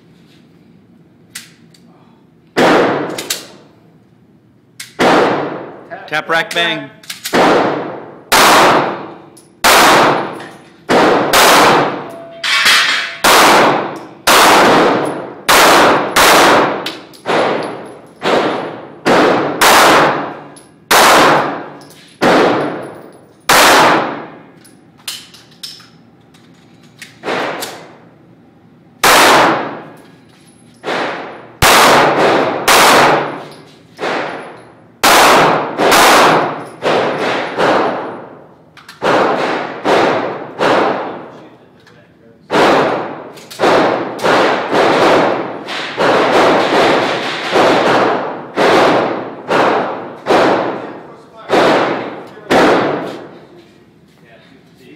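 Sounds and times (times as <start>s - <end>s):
pistol shots echoing indoors: 2.5s - 3.8s, 4.8s - 5.9s, 7.0s - 26.0s, 26.9s - 28.2s, 29.0s - 30.1s, 30.7s - 41.4s, 42.5s - 53.4s.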